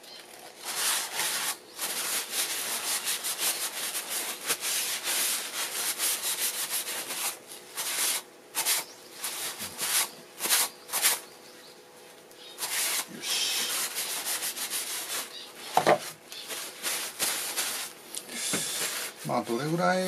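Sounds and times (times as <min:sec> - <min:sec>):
paper scraping over lacquered bowl: 0:00.2 - 0:11.2, 0:12.5 - 0:18.0, 0:18.6 - 0:20.0.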